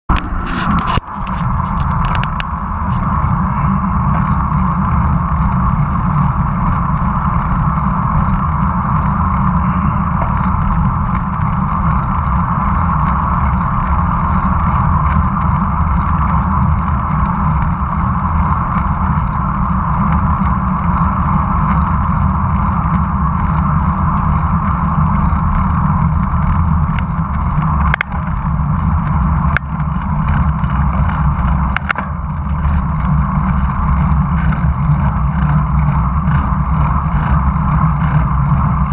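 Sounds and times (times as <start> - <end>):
tyres on asphalt: 0.0 - 38.9
wind rush on microphone: 0.0 - 38.9.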